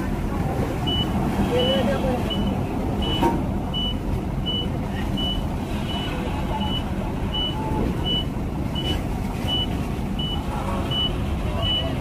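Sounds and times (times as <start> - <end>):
heavy truck engine running: 0.0 - 12.0
reversing alarm beeping: 0.9 - 12.0.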